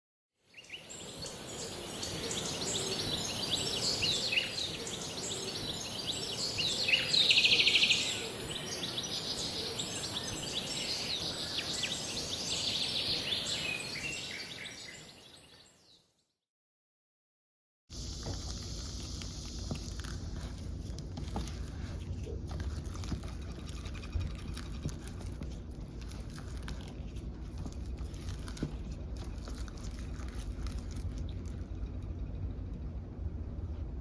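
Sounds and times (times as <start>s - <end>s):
low room hum: 0.5s - 15.9s, 17.9s - 34.0s.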